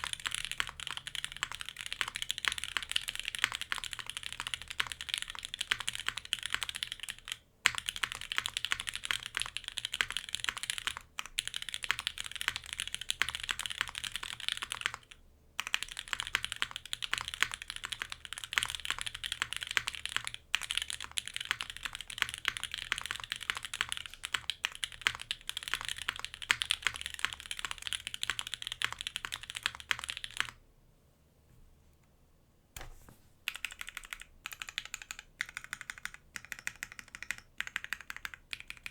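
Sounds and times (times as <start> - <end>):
fast typing on mechanical keyboard: 0.0 - 30.6, 33.5 - 38.9.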